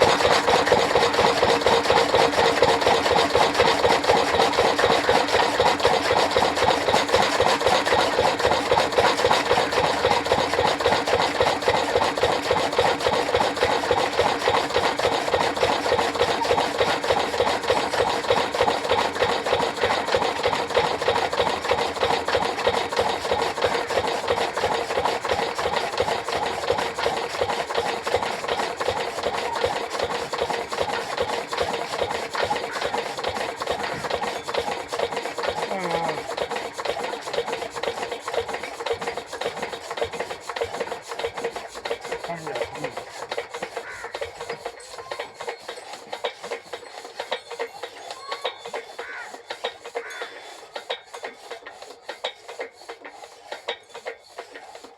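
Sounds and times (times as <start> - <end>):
chaff cutter running: 0.0 - 54.9.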